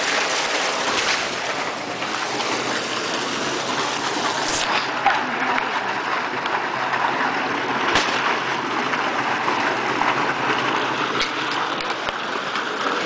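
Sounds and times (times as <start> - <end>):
water gushing onto ground: 0.0 - 13.0.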